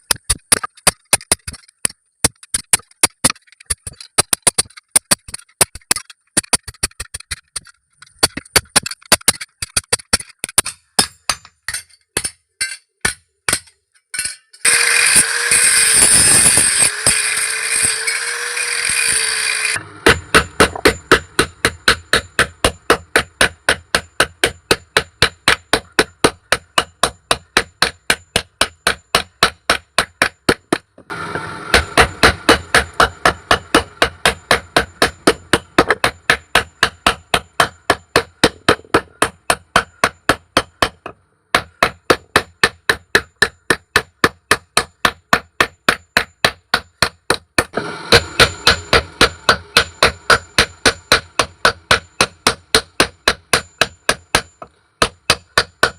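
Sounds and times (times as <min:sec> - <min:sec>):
hammer striking metal: 0:00.0 - 0:55.9.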